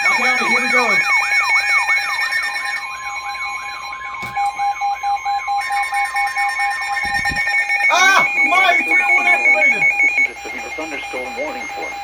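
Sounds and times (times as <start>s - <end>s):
warbling alarm tone: 0.0s - 12.0s.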